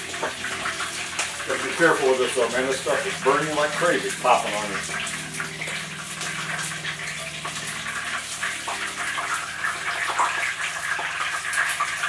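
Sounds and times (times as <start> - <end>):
low hum: 0.0 - 10.4
food sizzling in hot oil: 0.0 - 12.0.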